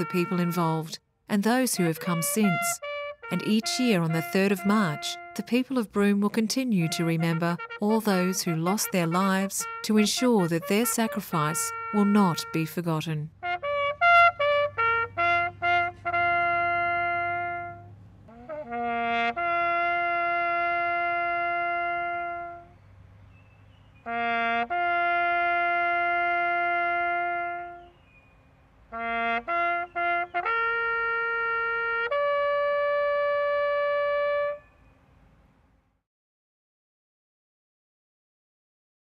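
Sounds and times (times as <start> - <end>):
bugle call: 0.0 - 22.8, 24.1 - 28.0, 28.9 - 34.7.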